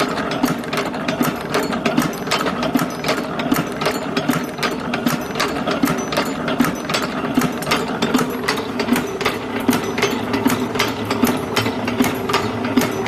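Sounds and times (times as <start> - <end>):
machine humming: 0.0 - 13.0
metallic clacks: 0.0 - 13.0.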